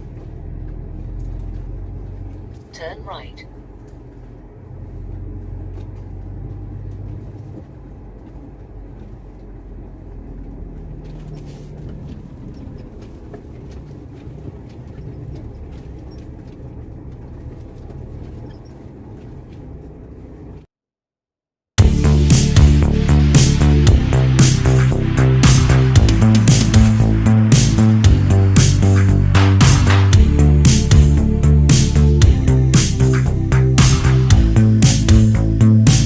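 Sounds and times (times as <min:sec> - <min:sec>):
truck engine low rumble: 0:00.0 - 0:20.7, 0:21.8 - 0:36.0.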